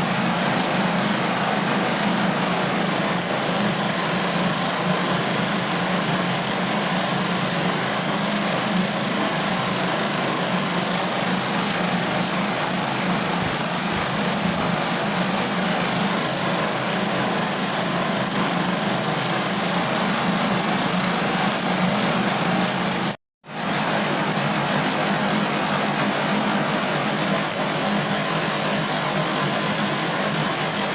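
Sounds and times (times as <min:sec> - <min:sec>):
steady rain: 0:00.0 - 0:30.9.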